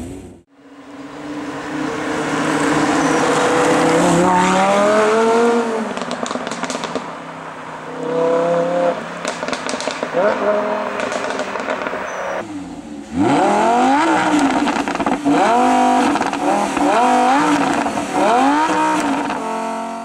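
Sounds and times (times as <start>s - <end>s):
sports car engine accelerating: 0.0s - 20.0s.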